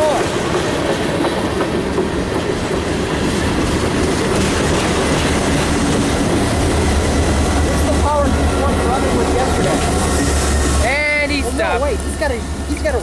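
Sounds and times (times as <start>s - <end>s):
train low rumble: 0.0s - 13.0s
train wheels clattering on rails: 0.0s - 13.0s.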